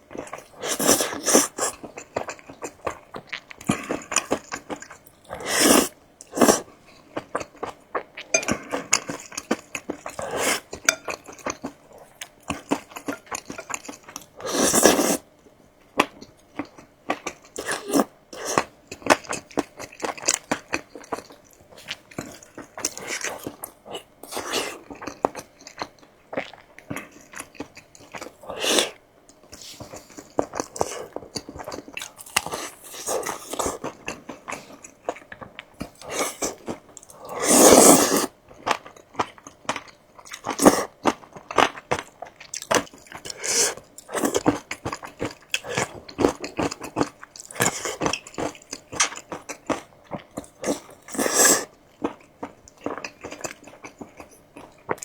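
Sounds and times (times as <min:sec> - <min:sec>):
person chewing crunchy food: 0:00.0 - 0:15.3, 0:15.9 - 0:55.0.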